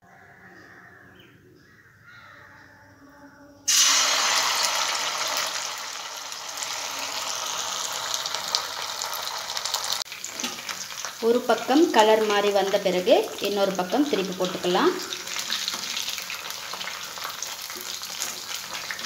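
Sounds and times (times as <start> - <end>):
oil sizzling while deep-frying: 3.7 - 19.0.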